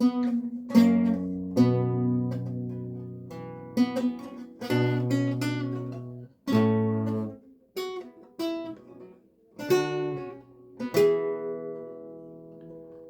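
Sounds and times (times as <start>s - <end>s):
lute plucked chords: 0.0s - 13.0s.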